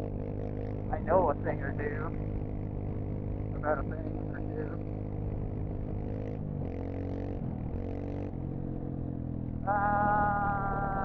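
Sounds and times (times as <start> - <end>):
wind or tyre noise: 0.0 - 11.0
dirt bike engine revving: 0.2 - 11.0.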